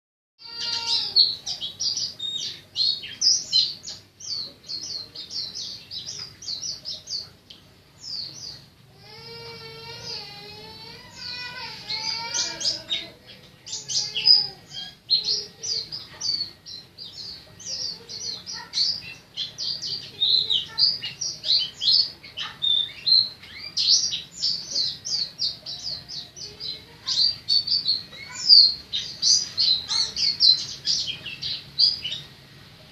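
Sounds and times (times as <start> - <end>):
bird singing rolling trills: 0.4 - 32.9.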